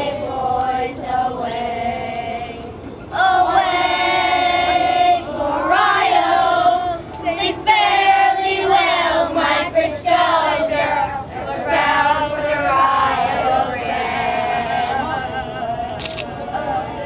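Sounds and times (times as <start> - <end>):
group singing long notes: 0.0 - 17.0.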